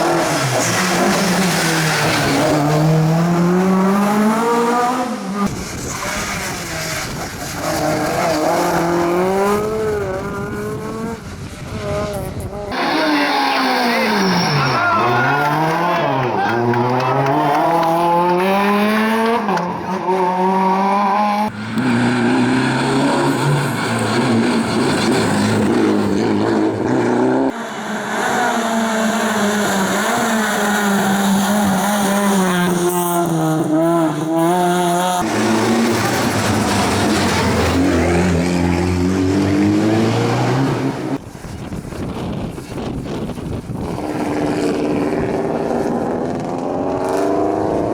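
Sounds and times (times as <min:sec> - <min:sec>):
rally car engines revving hard: 0:00.0 - 0:47.9.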